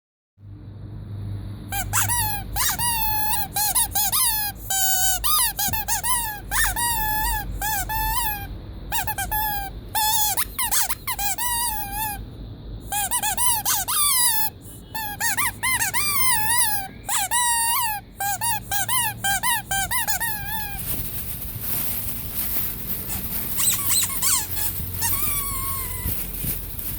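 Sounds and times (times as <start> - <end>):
rubber squeeze toy squeaks: 1.7 - 12.2, 12.8 - 26.9.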